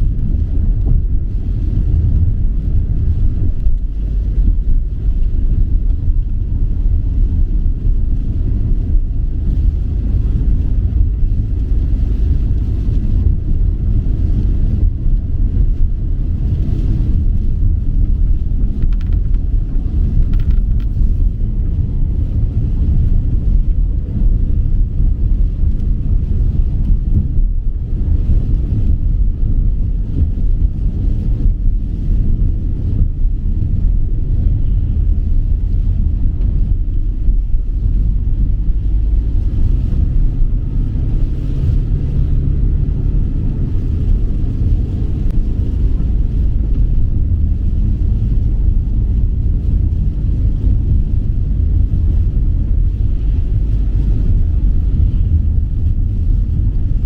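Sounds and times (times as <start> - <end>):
low rumble: 0.0 - 57.0.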